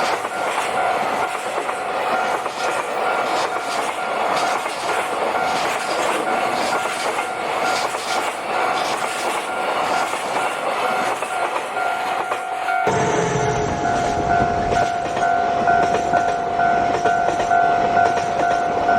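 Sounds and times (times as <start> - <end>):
crossing warning bell ringing: 0.0 - 18.9
train wheels clattering over rails: 0.0 - 18.9.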